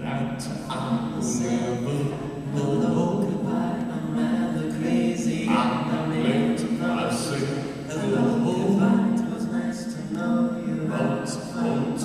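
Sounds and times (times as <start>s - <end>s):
band singing in harmony: 0.0s - 12.0s.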